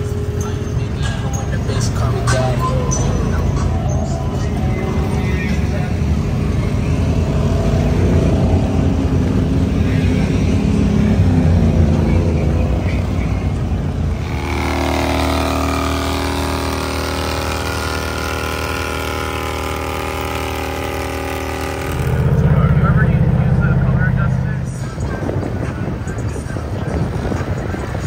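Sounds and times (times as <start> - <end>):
engine running loud: 0.0 - 28.0.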